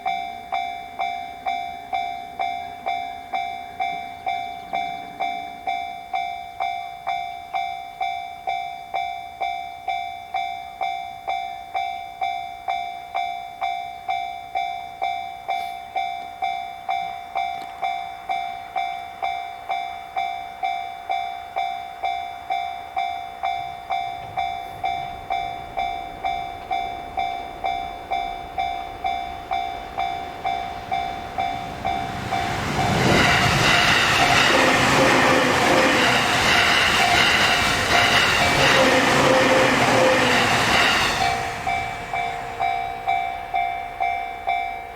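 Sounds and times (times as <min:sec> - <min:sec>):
level crossing alarm ringing: 0:00.0 - 0:44.9
train arriving: 0:00.0 - 0:44.9.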